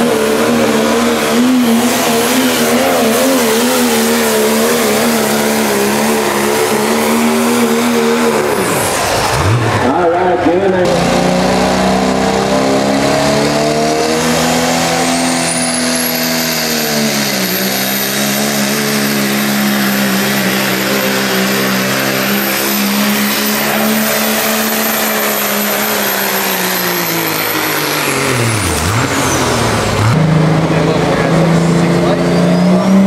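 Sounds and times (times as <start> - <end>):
diesel truck engine at high revs: 0.0 - 33.0.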